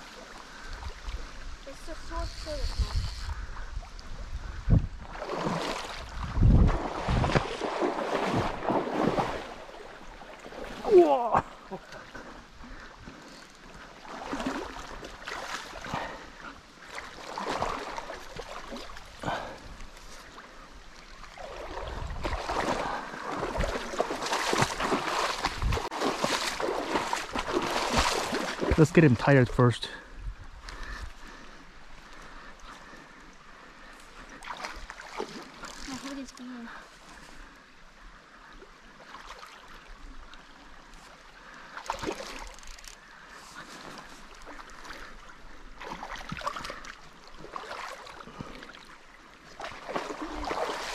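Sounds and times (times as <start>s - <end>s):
river water splashing: 0.0s - 50.9s.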